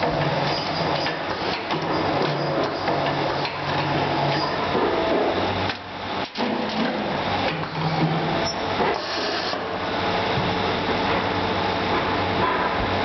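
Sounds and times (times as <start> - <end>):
workshop machinery clatter: 0.0 - 13.0.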